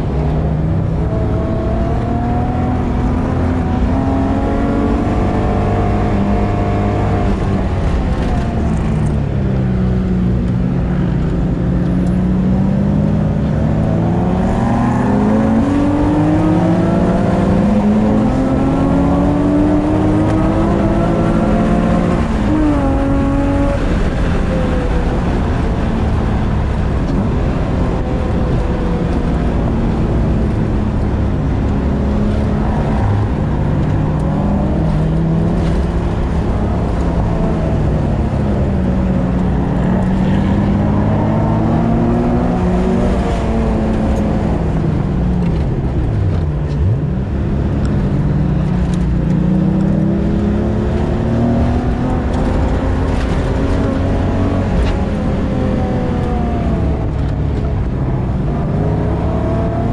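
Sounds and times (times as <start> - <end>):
car engine revving: 0.0 - 59.9
road and wind noise: 0.0 - 59.9.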